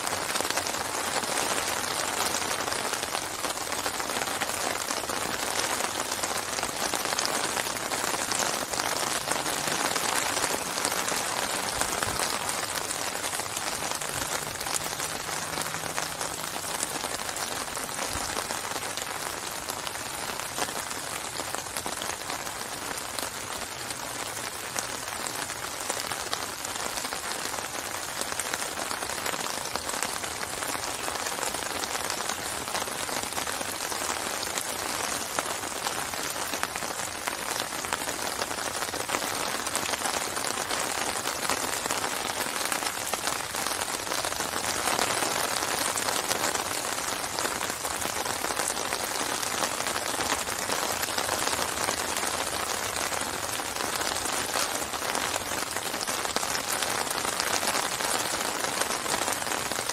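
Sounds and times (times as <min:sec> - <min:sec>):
rain falling on water: 0:00.0 - 0:59.9.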